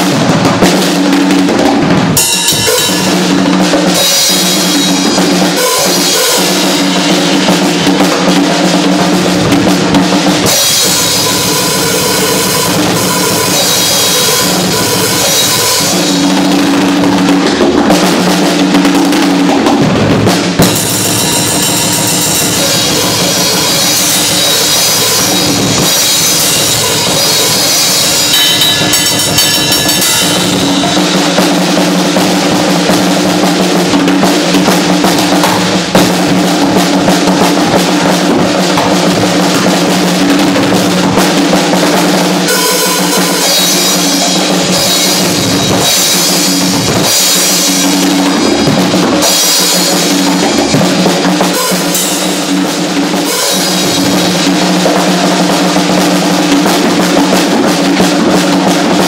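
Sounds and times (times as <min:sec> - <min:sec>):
drum kit playing loud: 0:00.0 - 0:59.0
cymbals ringing: 0:02.1 - 0:19.4, 0:20.4 - 0:58.0.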